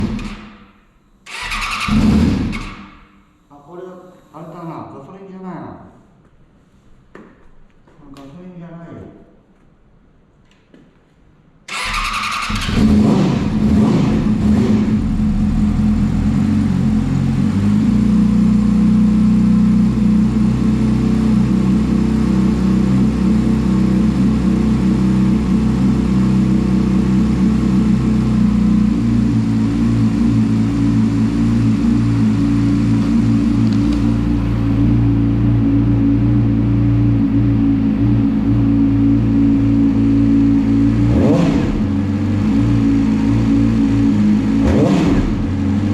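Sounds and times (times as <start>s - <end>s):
motorcycle engine starting and idling: 0.0s - 3.2s, 11.7s - 45.9s.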